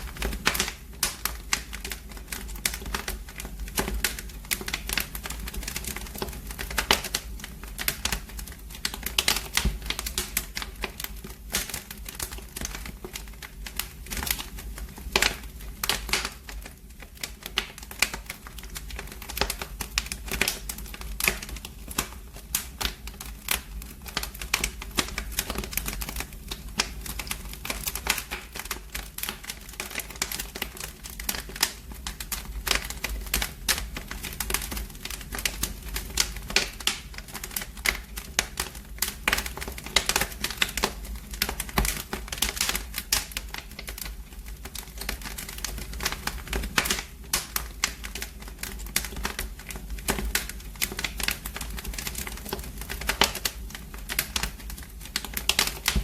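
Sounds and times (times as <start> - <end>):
low fire rumble: 0.0 - 56.0
wood fire crackling: 0.0 - 56.0.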